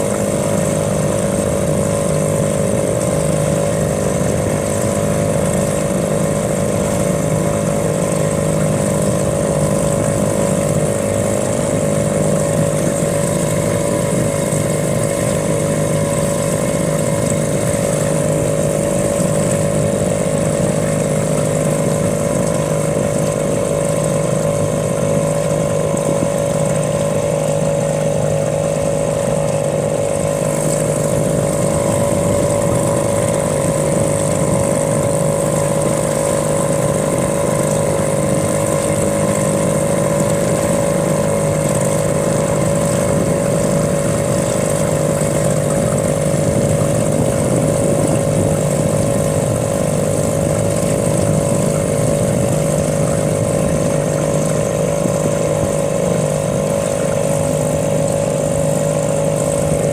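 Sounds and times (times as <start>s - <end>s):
outboard motor droning: 0.0s - 59.9s.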